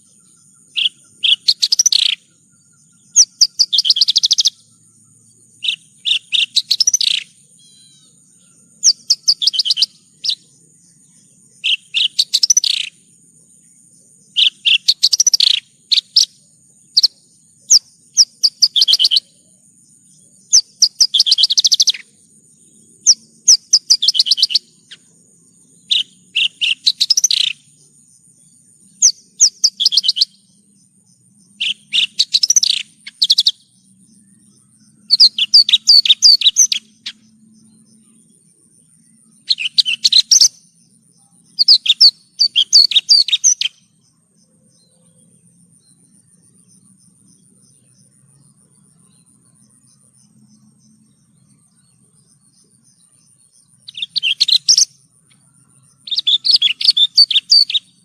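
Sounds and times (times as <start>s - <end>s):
bird singing rapid chirps: 0.0s - 58.0s.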